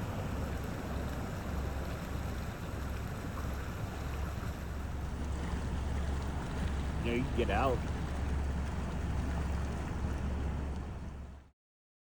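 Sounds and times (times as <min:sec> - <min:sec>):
stream water rushing: 0:00.0 - 0:11.4.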